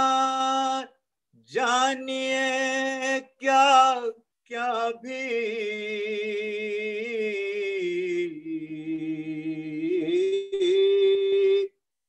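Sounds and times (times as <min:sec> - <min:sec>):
man singing a lament: 0:00.0 - 0:11.8.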